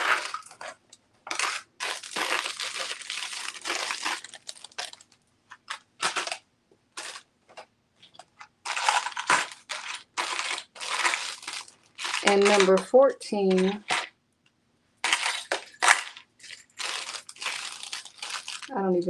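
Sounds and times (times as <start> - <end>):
plastic bags rustling and crinkling: 0.0 - 14.2, 15.0 - 18.8.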